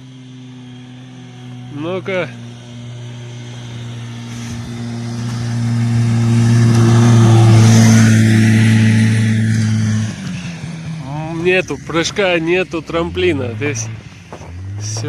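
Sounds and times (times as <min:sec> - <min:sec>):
snowmobile engine at full throttle: 0:00.0 - 0:15.0.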